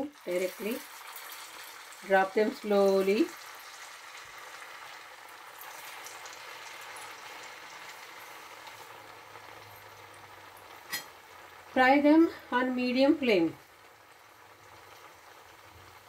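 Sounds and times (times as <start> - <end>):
oil sizzling deep-frying: 0.0 - 16.0.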